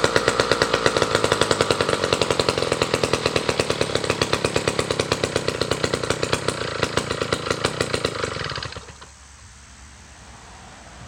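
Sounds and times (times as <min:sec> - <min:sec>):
two-stroke chainsaw idling: 0:00.0 - 0:09.2.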